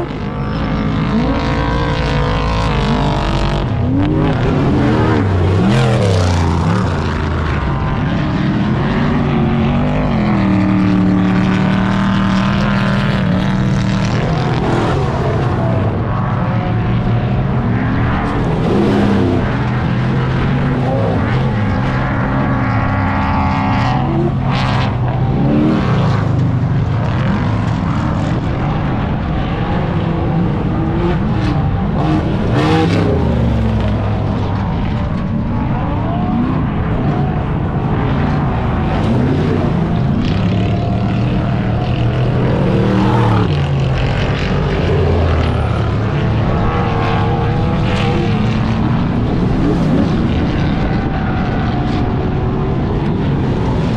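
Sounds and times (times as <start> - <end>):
car engines revving: 0.0 - 53.9
steady rush of noise: 0.0 - 53.9.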